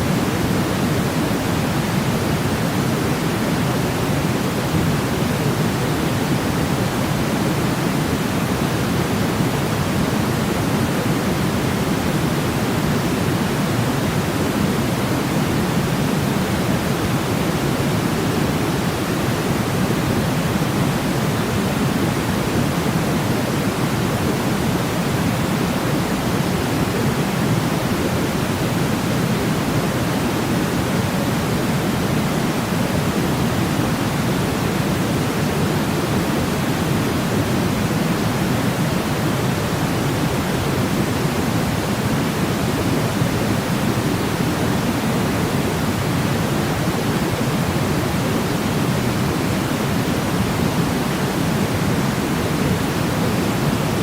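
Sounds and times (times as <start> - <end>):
deep white noise hiss: 0.0 - 54.0.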